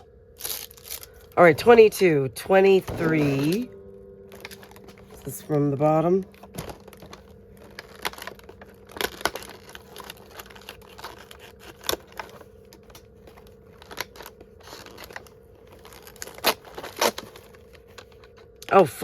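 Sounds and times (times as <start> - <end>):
packaging crinkling and tearing: 0.4 - 1.8, 2.7 - 18.8.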